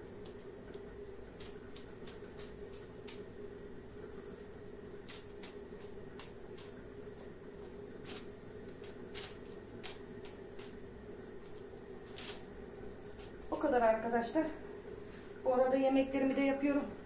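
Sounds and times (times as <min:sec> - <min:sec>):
hands shaping dough: 0:00.0 - 0:13.8
steady low hum: 0:00.0 - 0:17.0.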